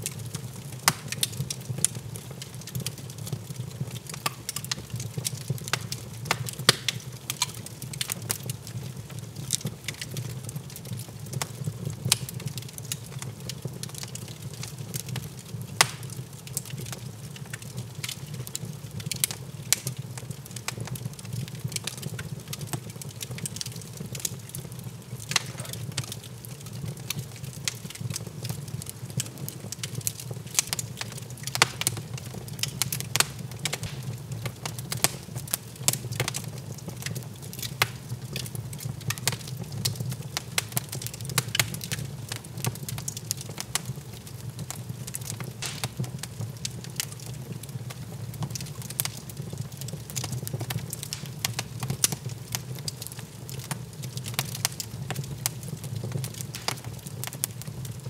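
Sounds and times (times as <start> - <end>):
fire pops and snaps: 0.0 - 58.0
wood fire crackling: 0.0 - 58.0.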